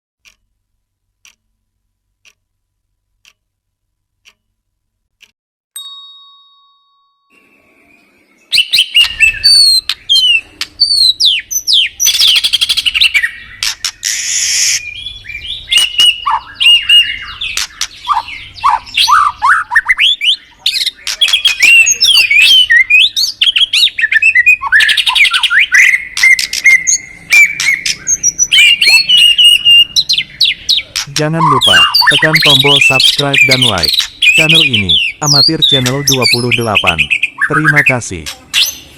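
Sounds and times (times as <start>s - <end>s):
songbird singing: 6.6s - 38.9s.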